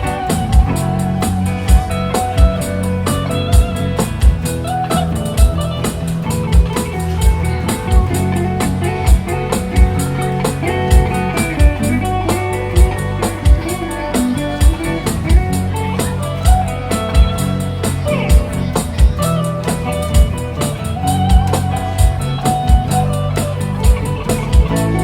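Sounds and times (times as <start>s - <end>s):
drum kit beat: 0.0s - 25.0s
guitar: 0.0s - 25.0s.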